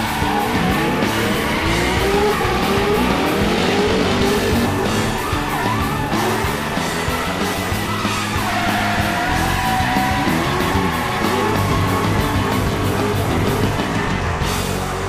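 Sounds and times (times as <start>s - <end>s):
rock music: 0.0s - 15.0s
tyres skidding: 0.0s - 15.0s
vehicle engine revving: 0.0s - 15.0s.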